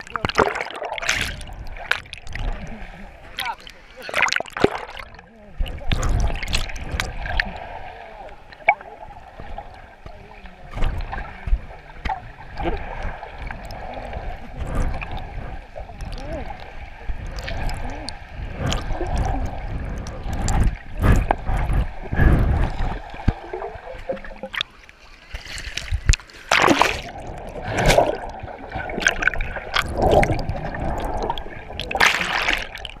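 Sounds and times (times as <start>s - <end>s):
muffled underwater rushing: 0.0s - 33.0s
sea water splashing: 0.0s - 33.0s
water bubbling: 0.0s - 33.0s.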